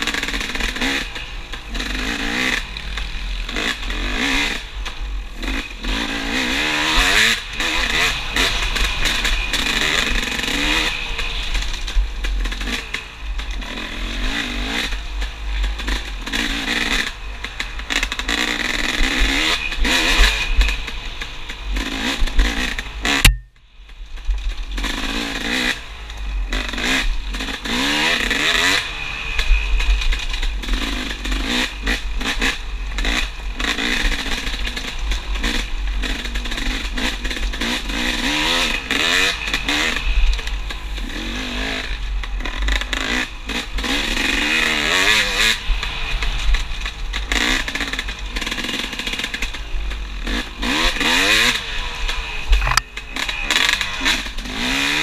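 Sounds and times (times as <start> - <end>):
dirt bike engine revving: 0.0 - 23.5, 24.2 - 55.0.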